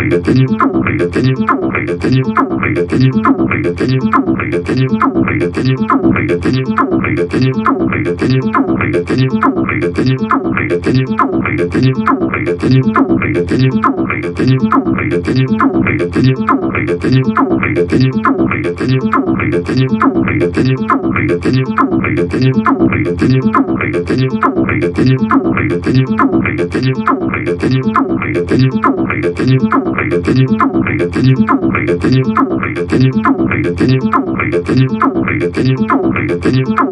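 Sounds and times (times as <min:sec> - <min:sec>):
acid synth chords: 0:00.0 - 0:36.9.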